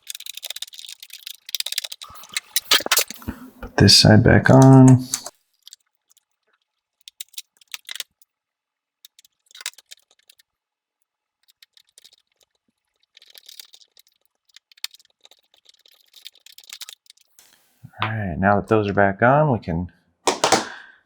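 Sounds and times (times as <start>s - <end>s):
plastic parts clicking and rattling: 0.0s - 3.8s, 4.5s - 17.6s.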